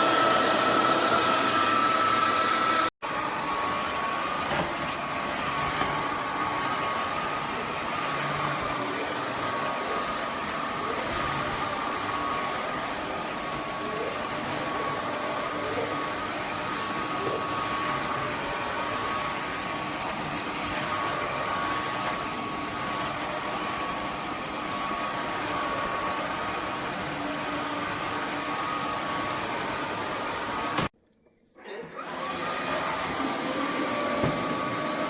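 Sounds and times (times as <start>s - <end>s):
vacuum cleaner running: 0.0s - 30.9s, 31.6s - 35.0s.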